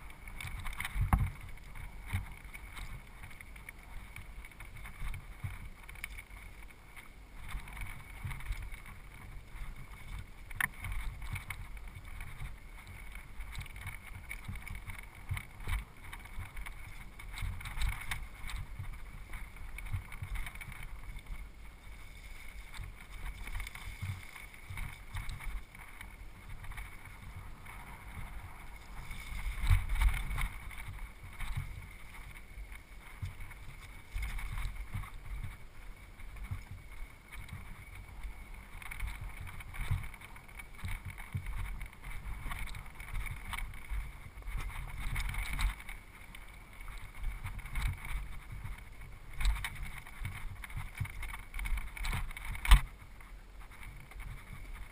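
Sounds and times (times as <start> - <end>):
bike rattling over rocks: 0.0 - 54.9
wind rush on microphone: 0.0 - 54.9.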